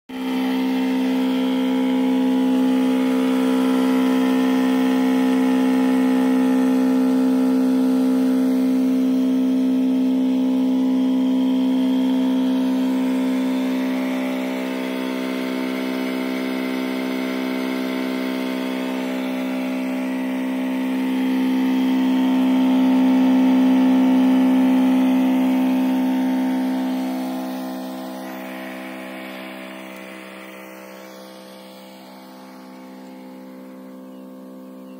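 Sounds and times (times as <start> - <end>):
electric sprayer pump humming: 0.1 - 34.9.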